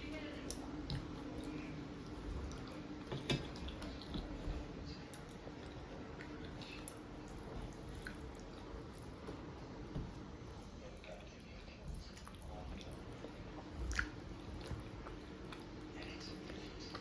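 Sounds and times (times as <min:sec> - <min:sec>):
wet chewing and squishing: 0:00.5 - 0:10.2, 0:11.9 - 0:17.0.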